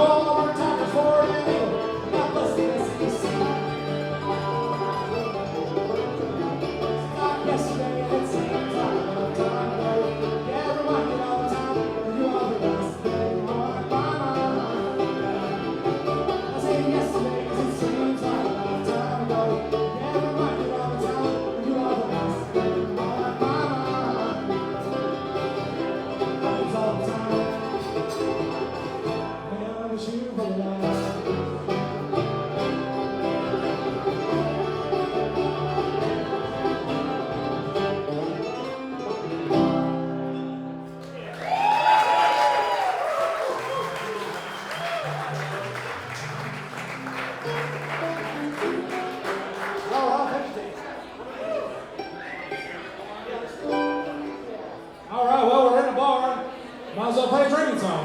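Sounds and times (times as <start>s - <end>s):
acoustic bluegrass band playing: 0.0s - 58.0s.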